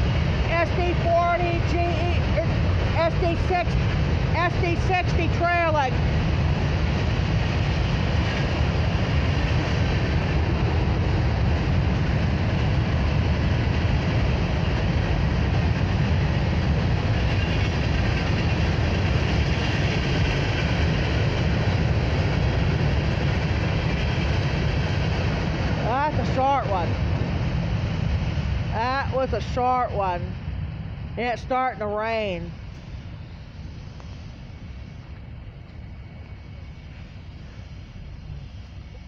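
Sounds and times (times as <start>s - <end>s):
freight train wheels rumbling on rails: 0.0s - 39.0s.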